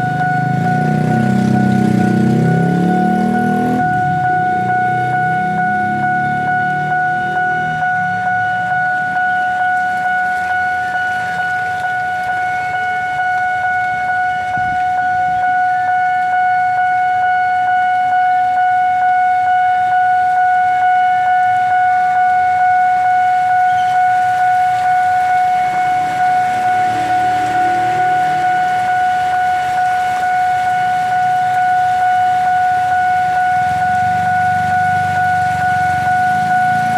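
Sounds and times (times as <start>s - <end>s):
level crossing alarm tone: 0.0s - 17.8s, 20.8s - 36.9s.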